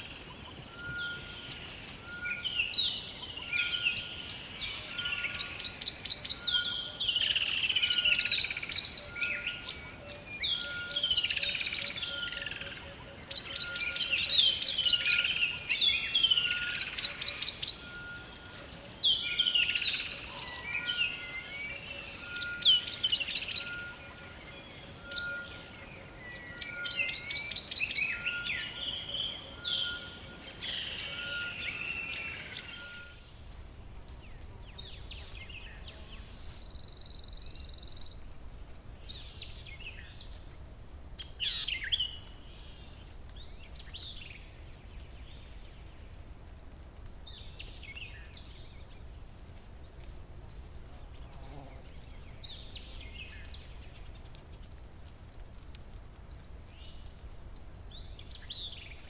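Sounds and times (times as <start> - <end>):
birds calling and chirping: 0.0 - 59.0.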